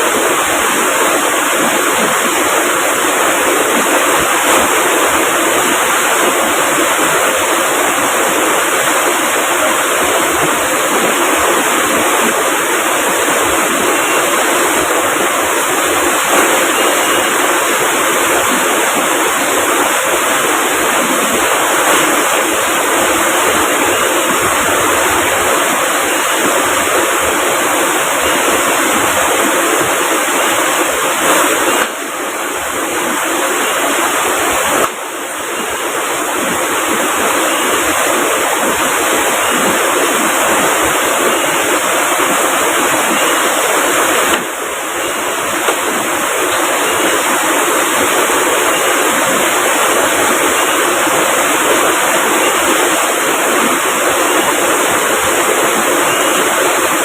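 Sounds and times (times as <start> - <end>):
fast-flowing river: 0.0 - 57.0
heavy rain: 0.0 - 57.0.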